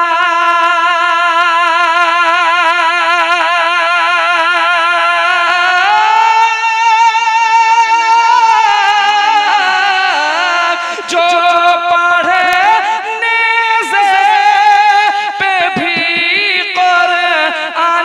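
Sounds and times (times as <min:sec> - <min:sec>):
man singing with vibrato: 0:00.0 - 0:18.0.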